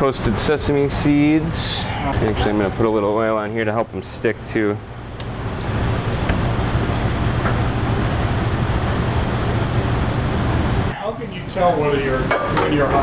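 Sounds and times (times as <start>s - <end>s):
kitchen equipment humming: 0.0s - 13.0s.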